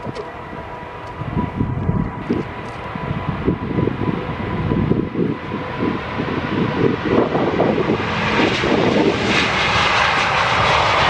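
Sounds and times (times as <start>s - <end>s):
jet engines whining: 0.0s - 11.0s
wind rumbling on microphone: 0.0s - 11.0s.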